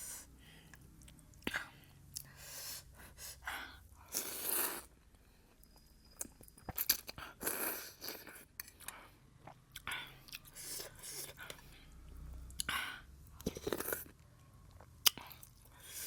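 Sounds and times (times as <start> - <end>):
chewing and wet mouth noises: 0.6 - 2.4, 4.0 - 16.0.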